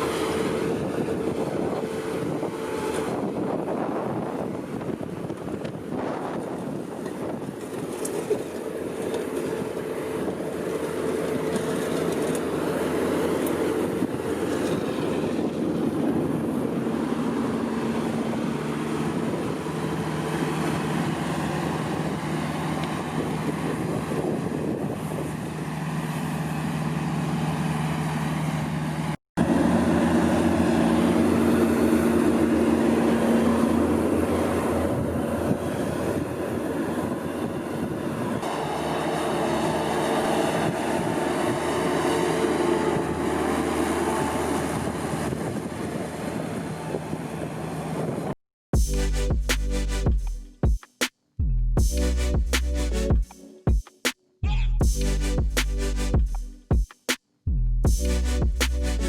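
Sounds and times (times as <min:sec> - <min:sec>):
diesel engines droning: 0:00.0 - 0:50.6, 0:57.9 - 0:59.0.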